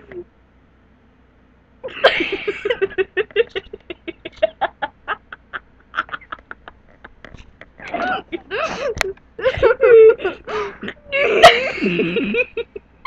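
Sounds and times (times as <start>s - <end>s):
boy laughing: 1.8s - 13.0s.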